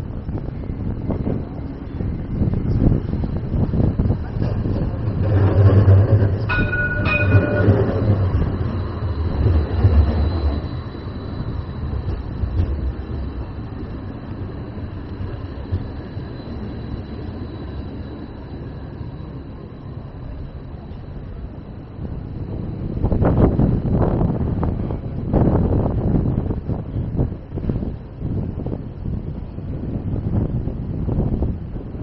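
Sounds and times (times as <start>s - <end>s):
tram passing with low rumble: 0.0s - 32.0s.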